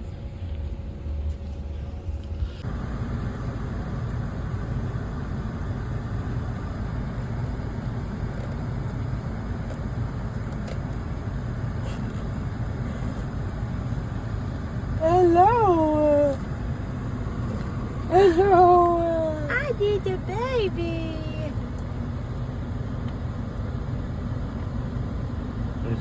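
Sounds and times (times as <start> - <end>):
road and engine noise inside car: 0.0 - 26.0.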